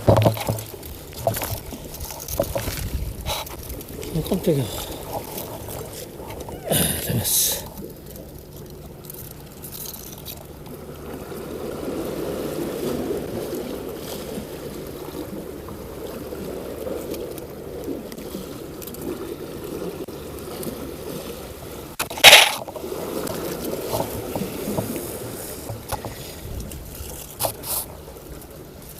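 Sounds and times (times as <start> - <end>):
boat engine hum: 0.0 - 28.9
water and wind noise: 0.0 - 28.9.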